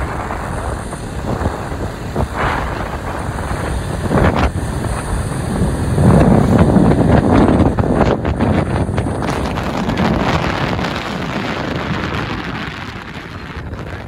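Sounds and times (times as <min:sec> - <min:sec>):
motorcycle engine: 0:00.0 - 0:14.0
road noise: 0:00.0 - 0:14.0
wind rushing over microphone: 0:00.0 - 0:14.0.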